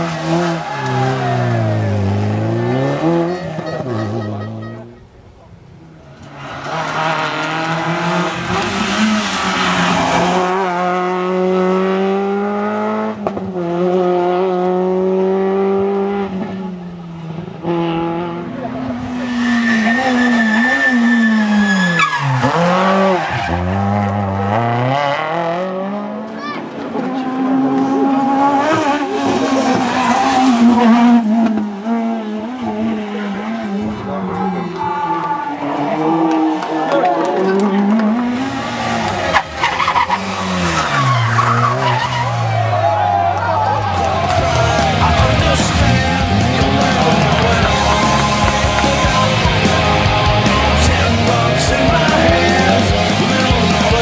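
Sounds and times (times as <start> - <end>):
car engine at high revs: 0.0 - 5.0, 5.8 - 54.0.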